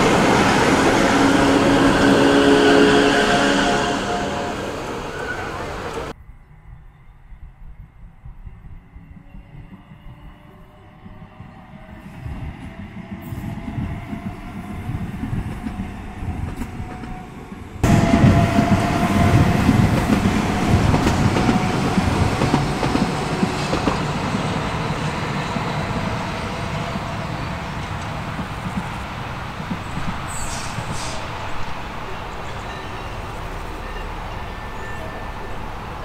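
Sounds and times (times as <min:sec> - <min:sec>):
electric train running on track: 0:00.0 - 0:06.2, 0:07.3 - 0:36.0
steady train whine: 0:00.0 - 0:36.0.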